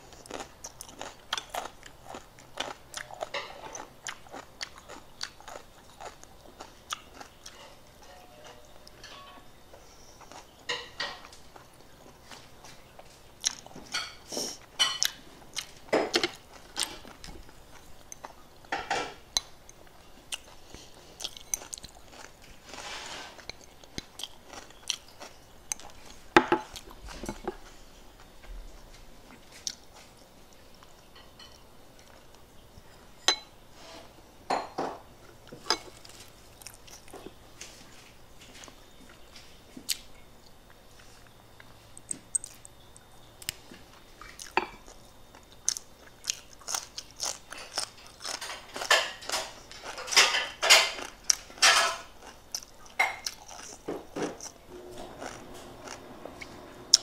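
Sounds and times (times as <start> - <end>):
person chewing food: 0.0 - 33.2, 35.2 - 57.0.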